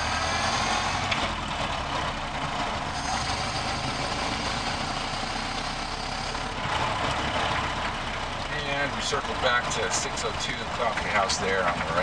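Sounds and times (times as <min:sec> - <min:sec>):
old truck engine running: 0:00.0 - 0:12.0
road noise: 0:00.0 - 0:12.0.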